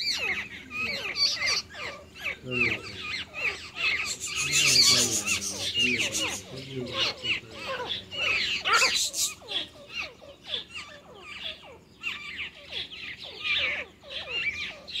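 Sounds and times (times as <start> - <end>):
small birds chattering: 0.0 - 15.0.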